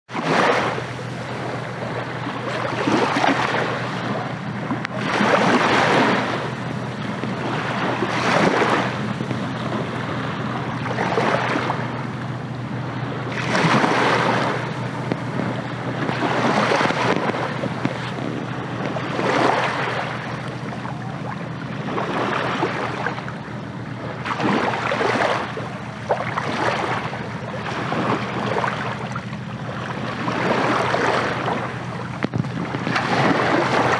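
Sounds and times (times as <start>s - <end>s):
sea waves washing in: 0.1s - 33.9s
wind over water: 0.1s - 33.9s
low hum: 0.6s - 33.9s.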